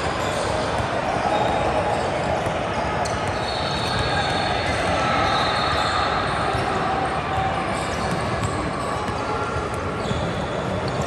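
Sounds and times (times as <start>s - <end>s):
echoing sports hall din: 0.0s - 11.0s.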